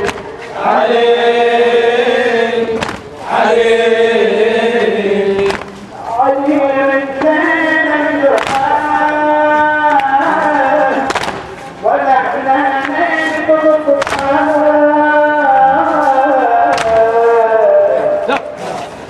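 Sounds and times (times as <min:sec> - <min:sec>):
man chanting devotionally: 0:00.6 - 0:11.1, 0:11.8 - 0:18.3.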